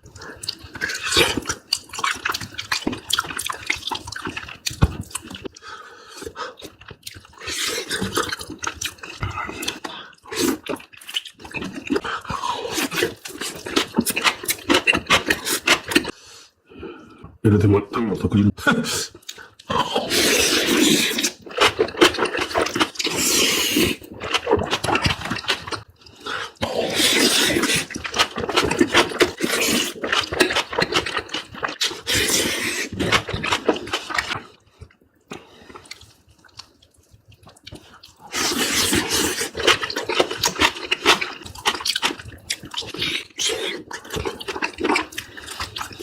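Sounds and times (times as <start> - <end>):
wet chewing and slurping: 0.0 - 16.2, 18.9 - 46.0.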